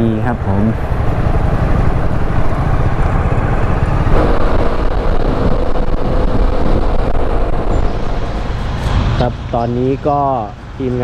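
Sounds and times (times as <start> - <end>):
scooter engine running: 0.0 - 8.9
riding noise: 0.0 - 11.0
steady hum: 0.7 - 10.9.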